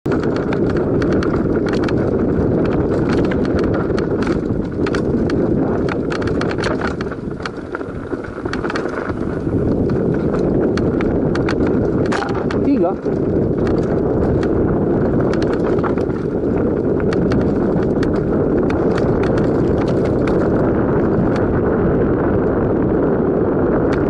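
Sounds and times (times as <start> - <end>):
bike rattles and clicks: 0.0 - 24.0
wind on microphone: 0.0 - 24.0
bike tyres rumbling on dirt: 0.1 - 24.0.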